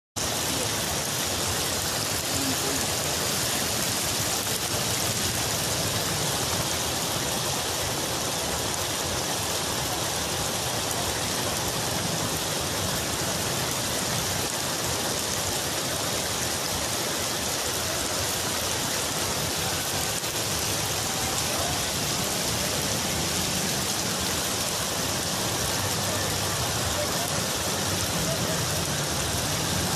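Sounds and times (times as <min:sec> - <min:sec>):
heavy rain pouring: 0:00.2 - 0:29.9.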